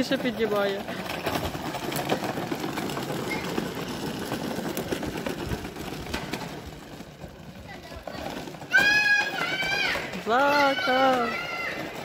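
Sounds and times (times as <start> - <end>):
plastic wheels rattling on paving: 0.0 - 12.0.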